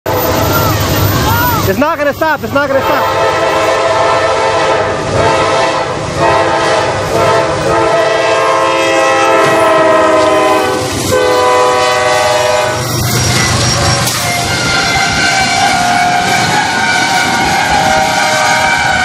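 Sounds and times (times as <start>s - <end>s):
train rumble: 0.1s - 19.0s
train air horn blasts: 2.7s - 19.0s.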